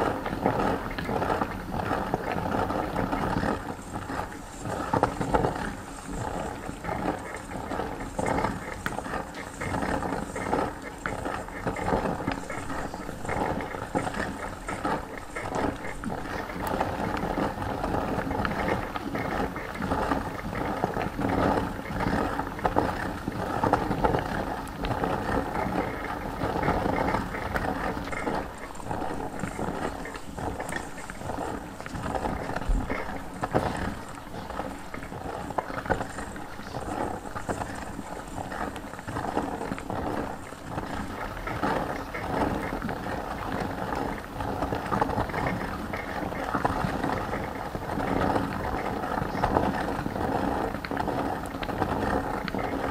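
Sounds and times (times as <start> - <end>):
hand-cranked meat grinder turning: 0.0 - 52.9.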